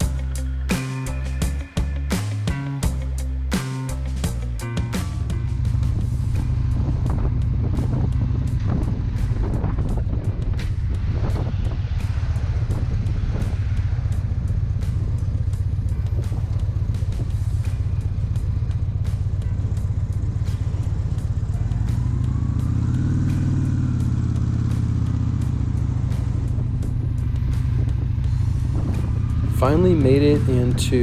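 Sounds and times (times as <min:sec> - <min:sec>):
motorcycle engine at road speed: 0:00.0 - 0:31.0
wind and road noise: 0:00.0 - 0:31.0.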